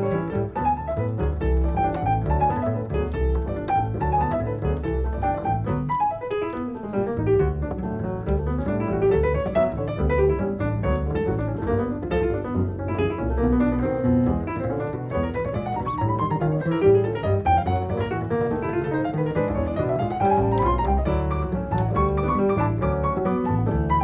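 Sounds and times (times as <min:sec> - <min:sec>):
jazz piano: 0:00.0 - 0:24.0
plucked upright bass: 0:00.0 - 0:24.0.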